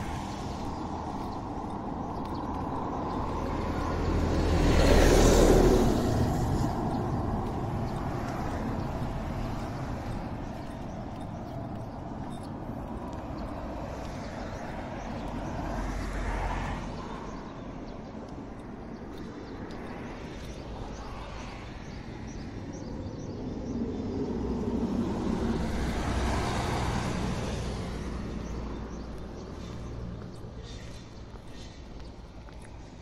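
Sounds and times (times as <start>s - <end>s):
vehicles passing on road: 0.0s - 33.0s.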